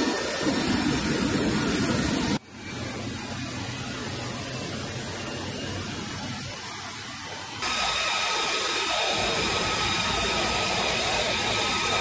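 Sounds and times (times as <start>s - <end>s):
high-pitched whine: 0.0s - 12.0s
jet engine idling: 0.0s - 12.0s.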